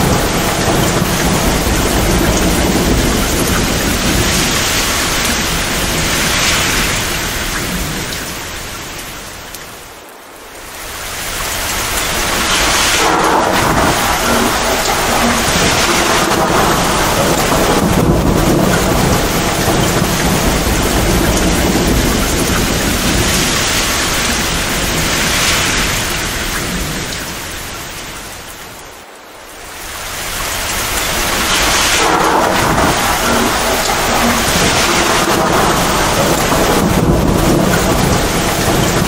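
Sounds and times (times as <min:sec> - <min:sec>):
thunder rumbling: 0:00.0 - 0:09.8, 0:10.6 - 0:28.9, 0:29.7 - 0:39.0
heavy rain downpour: 0:00.0 - 0:39.0.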